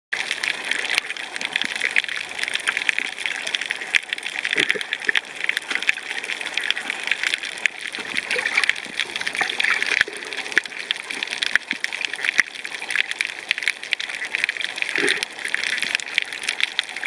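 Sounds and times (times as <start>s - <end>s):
underwater reef crackle: 0.1s - 17.0s.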